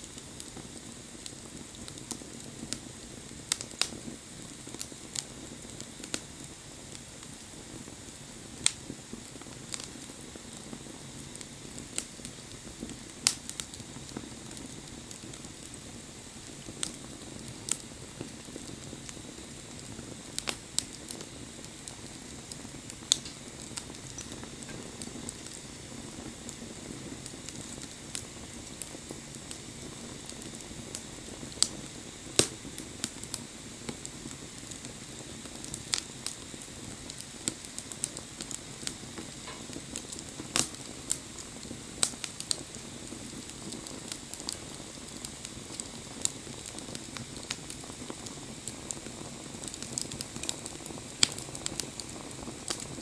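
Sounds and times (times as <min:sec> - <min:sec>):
fire crackling and popping: 0:00.0 - 0:53.0
fire hissing: 0:00.0 - 0:53.0.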